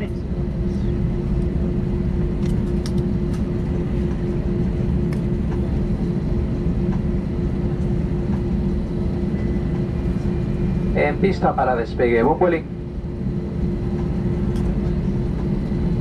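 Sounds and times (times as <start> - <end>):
aircraft cabin rumble and hum: 0.0 - 16.0.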